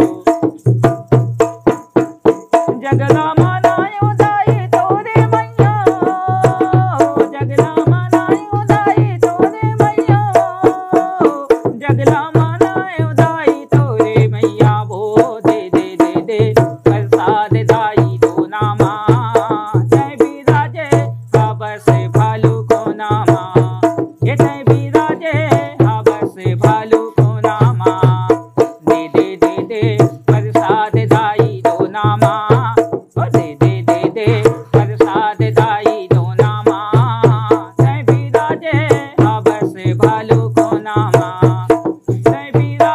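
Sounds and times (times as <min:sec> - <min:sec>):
man singing folk song: 0:00.0 - 0:00.6, 0:02.5 - 0:42.9
hand drum beat: 0:00.0 - 0:42.9.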